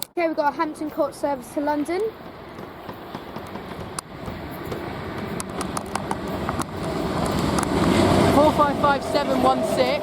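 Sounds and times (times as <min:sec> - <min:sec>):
electric train approaching: 0:00.7 - 0:10.0.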